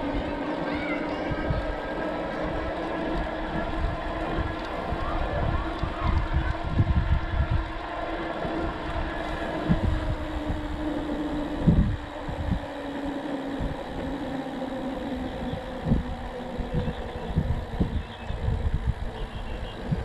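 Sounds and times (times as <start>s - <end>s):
steady hum: 0.0s - 20.0s
wind buffeting microphone: 0.0s - 20.0s.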